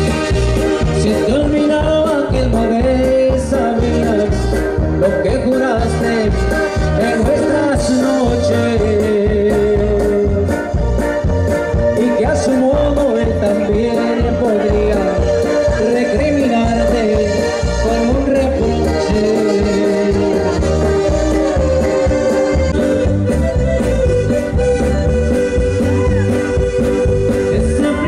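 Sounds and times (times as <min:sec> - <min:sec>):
person singing: 0:00.0 - 0:10.8, 0:11.8 - 0:23.4, 0:25.7 - 0:28.0
live latin dance band: 0:00.0 - 0:28.0.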